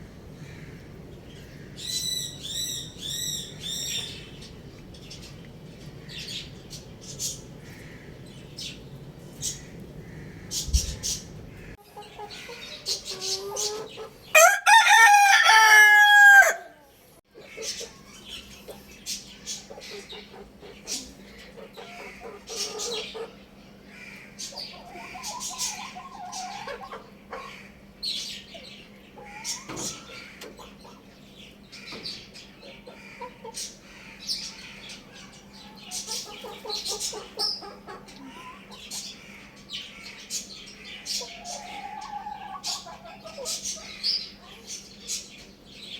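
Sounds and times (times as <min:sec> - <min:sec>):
chickens clucking: 0:00.0 - 0:45.6.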